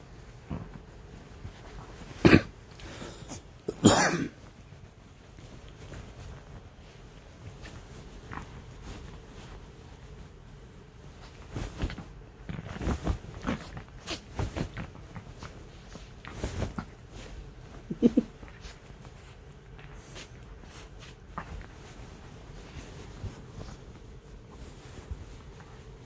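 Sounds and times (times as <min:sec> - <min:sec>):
dogs scuffling on bedding: 0:00.0 - 0:02.7, 0:04.4 - 0:26.0.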